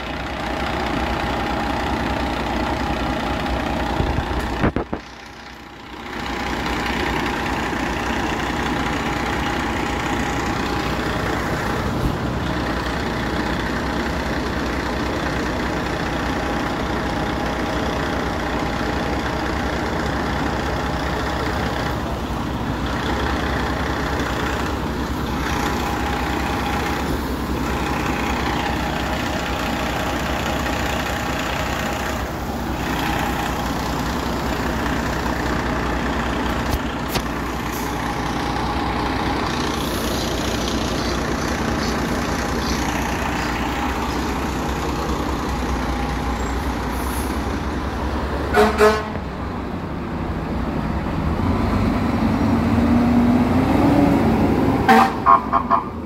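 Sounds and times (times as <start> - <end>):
diesel engines idling: 0.0 - 56.0.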